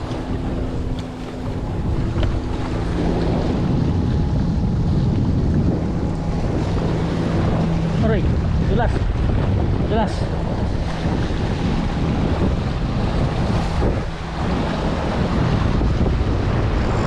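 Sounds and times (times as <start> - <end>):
speedboat engine hum: 0.0 - 17.0
wind buffeting microphone: 0.0 - 17.0.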